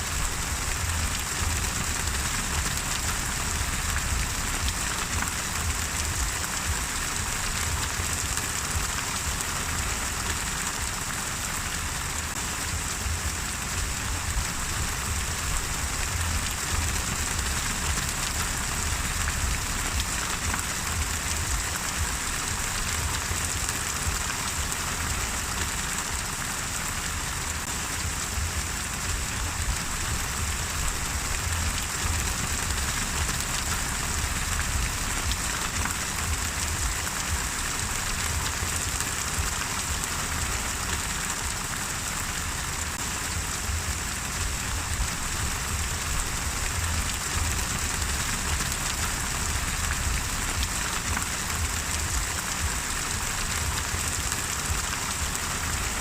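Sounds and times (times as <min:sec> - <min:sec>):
low rumble: 0:00.0 - 0:08.9, 0:12.3 - 0:24.2, 0:27.8 - 0:40.0, 0:43.0 - 0:56.0
steady rain falling: 0:00.0 - 0:56.0.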